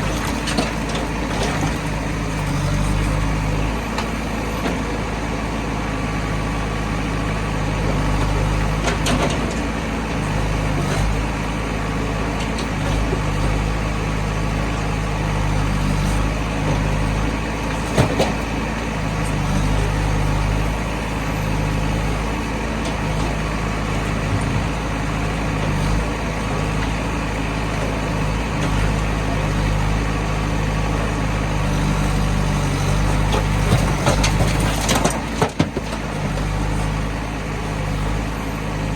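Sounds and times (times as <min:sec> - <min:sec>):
heavy diesel engine working: 0:00.0 - 0:38.9.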